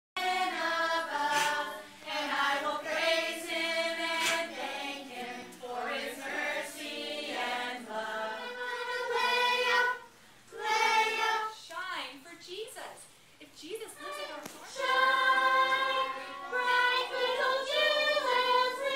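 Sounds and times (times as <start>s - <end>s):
children and adults singing: 0.2s - 11.6s, 14.0s - 18.9s.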